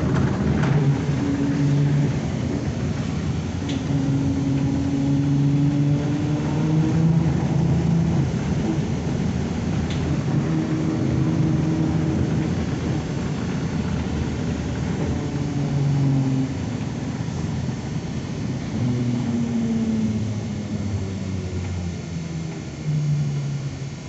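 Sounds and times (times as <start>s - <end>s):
electric motor hum: 0.0s - 24.0s
rumble of wheels and body: 0.0s - 24.0s.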